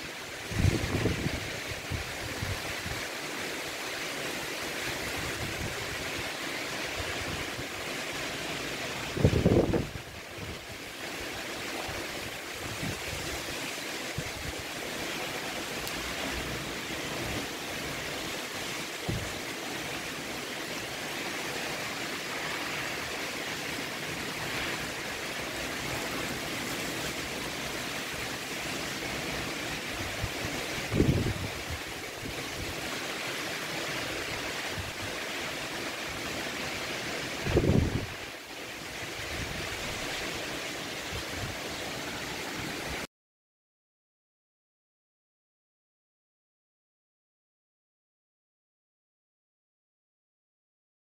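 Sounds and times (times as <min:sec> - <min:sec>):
heavy rain falling: 0:00.0 - 0:43.1.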